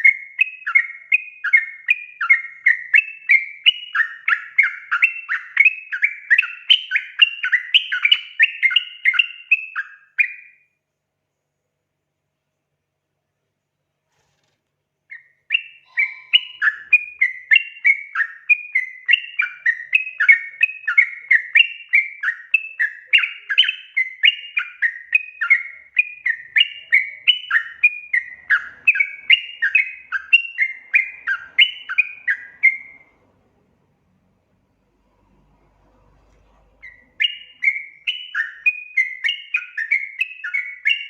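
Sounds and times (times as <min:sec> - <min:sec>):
bird warbling song: 0:00.0 - 0:10.7, 0:15.1 - 0:33.4, 0:36.3 - 0:41.0.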